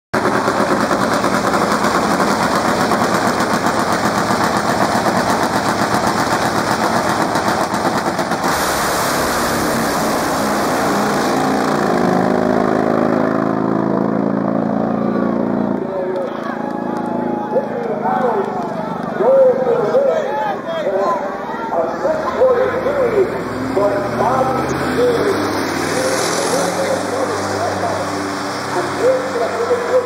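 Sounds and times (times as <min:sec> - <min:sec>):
drag racing motorcycles roaring: 0:00.2 - 0:30.0.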